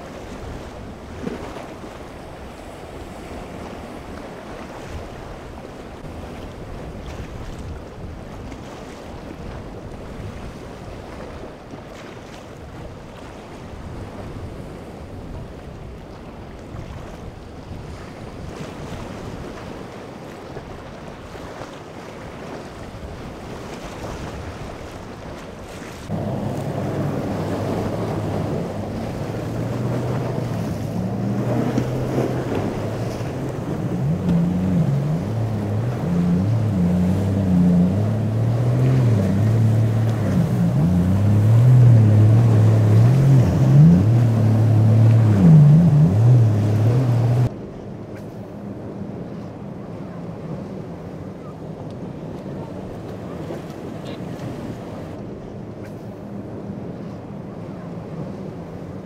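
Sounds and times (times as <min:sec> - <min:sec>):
breaking waves: 0:00.0 - 0:47.6
boat engine low hum: 0:00.0 - 0:59.0
wind buffeting microphone: 0:00.0 - 0:59.0.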